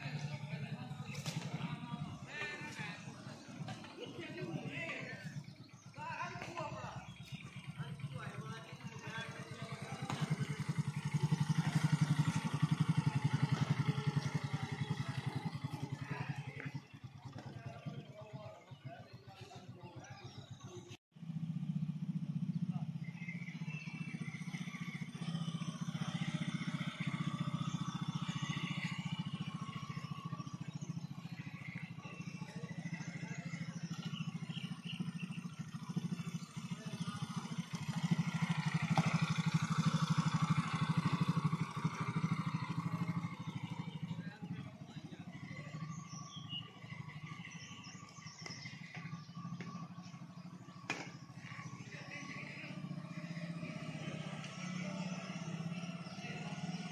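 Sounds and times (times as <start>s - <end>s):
motorcycle engine at low revs: 0.0s - 56.9s.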